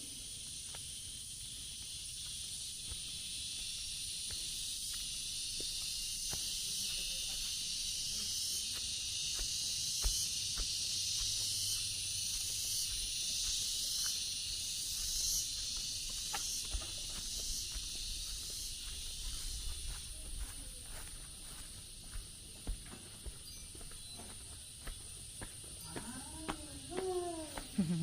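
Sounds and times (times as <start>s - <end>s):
insects shrill drone: 0.0s - 28.0s.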